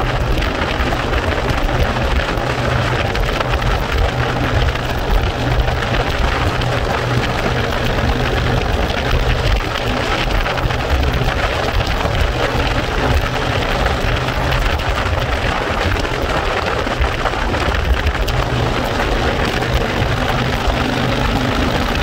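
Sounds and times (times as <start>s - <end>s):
motorcycle engine: 0.0s - 22.0s
road noise: 0.0s - 22.0s
wind rush on microphone: 0.0s - 22.0s.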